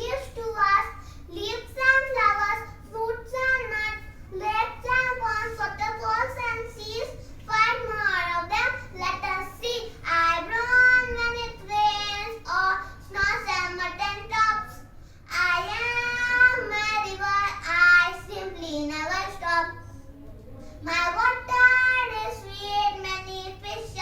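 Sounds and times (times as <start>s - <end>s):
child singing: 0.0s - 19.8s, 20.8s - 24.0s.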